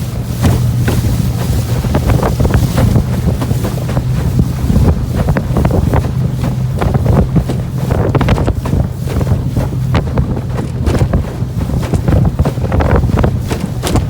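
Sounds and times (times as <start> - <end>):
boat engine humming: 0.0 - 14.0
wind buffeting microphone: 0.0 - 14.0.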